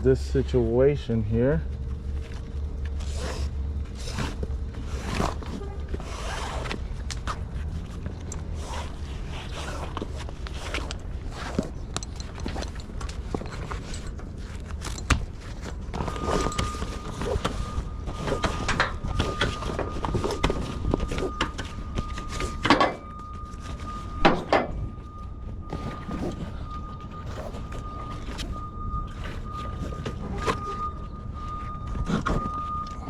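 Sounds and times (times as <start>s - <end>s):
steady low rumble: 0.0s - 22.3s, 23.0s - 32.1s.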